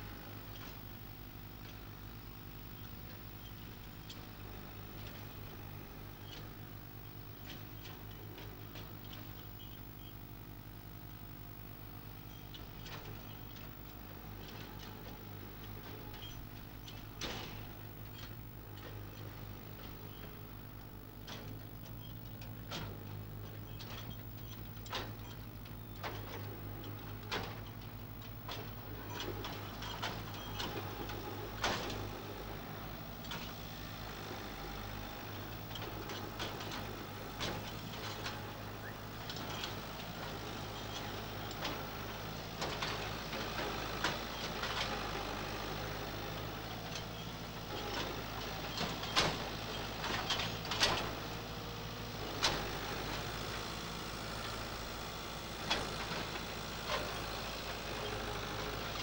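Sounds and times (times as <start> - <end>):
tractor engine at low revs: 0.0 - 59.0.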